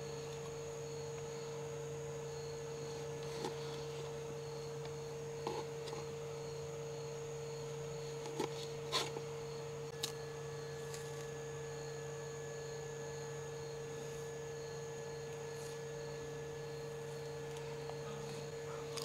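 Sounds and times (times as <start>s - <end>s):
faint high insect chirp: 0.0s - 19.0s
steady hum: 0.0s - 19.0s.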